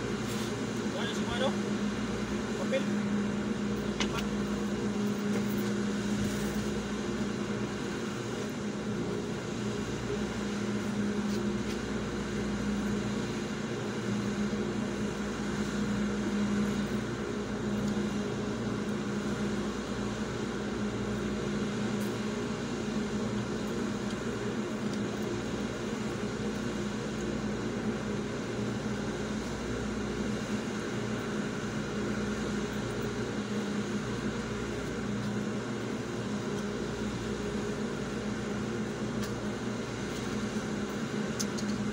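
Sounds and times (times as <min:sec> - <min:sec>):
vehicle engine and air conditioning hum: 0:00.0 - 0:41.9.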